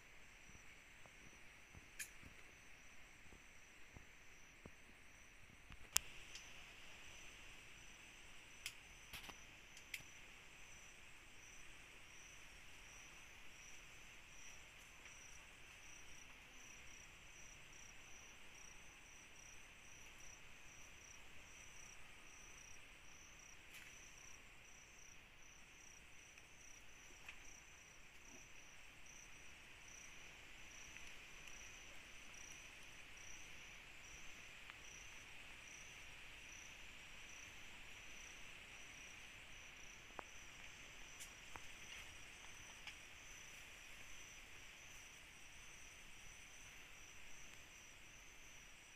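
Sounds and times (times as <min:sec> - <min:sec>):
cricket chirping: 0:00.0 - 0:48.9
hiss of insects: 0:00.0 - 0:48.9.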